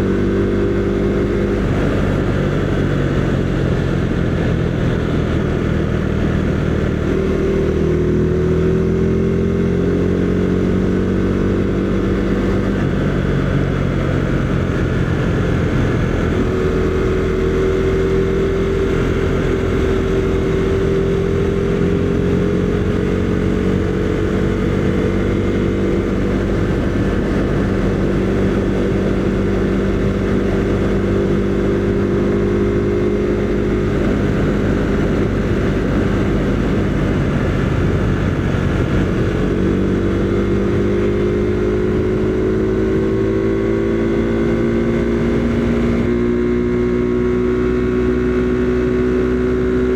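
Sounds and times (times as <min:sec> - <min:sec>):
wind rush: 0:00.0 - 0:09.2, 0:10.2 - 0:49.9
motorcycle engine cruising: 0:00.0 - 0:49.9.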